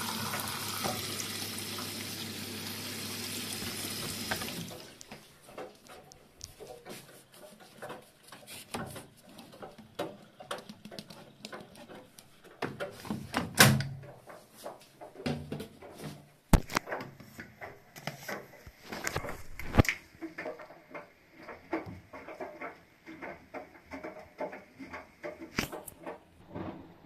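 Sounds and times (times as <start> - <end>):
clicks and knocks of handling: 4.3 - 26.8.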